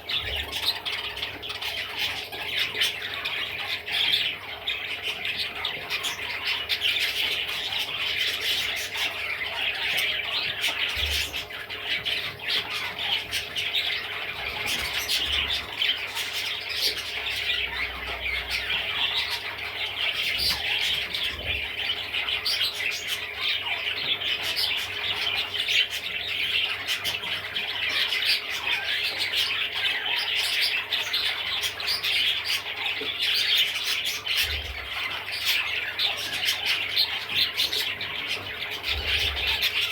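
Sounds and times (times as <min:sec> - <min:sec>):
budgerigar warbling and chirping: 0:00.0 - 0:39.9.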